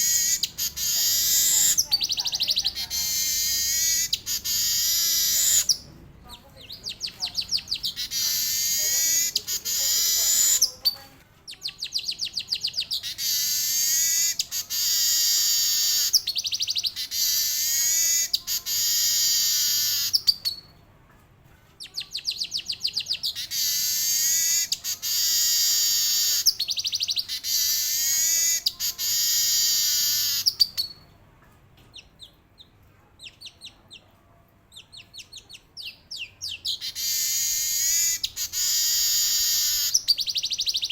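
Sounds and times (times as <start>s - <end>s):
bird singing rapid trills: 0.0s - 5.9s, 6.6s - 20.6s, 21.9s - 31.0s, 34.8s - 40.9s.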